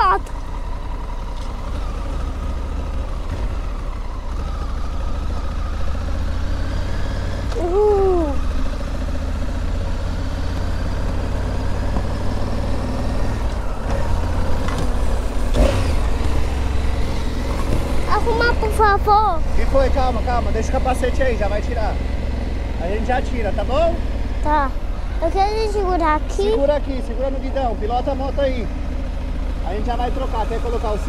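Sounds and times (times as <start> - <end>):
motorcycle engine rumble: 0.0 - 31.0.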